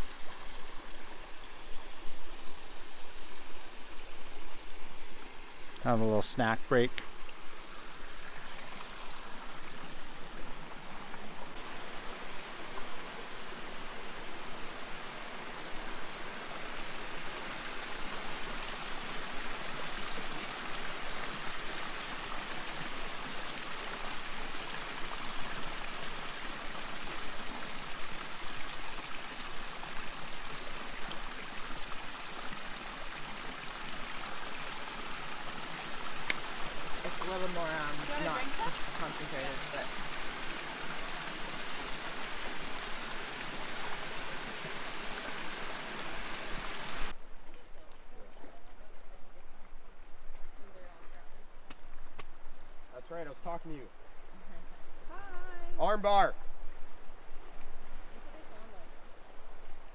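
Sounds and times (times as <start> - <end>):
creek flowing over stones: 0.0 - 59.9.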